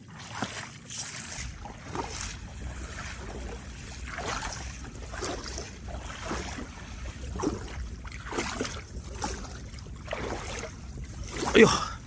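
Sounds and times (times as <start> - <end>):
footsteps wading through mud water: 0.0 - 12.0
wind rumble on microphone: 0.0 - 12.0.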